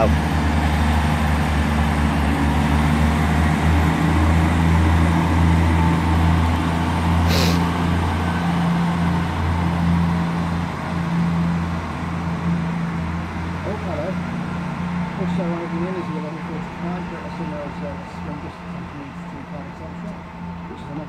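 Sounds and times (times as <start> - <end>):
diesel train engine drone: 0.0 - 21.0.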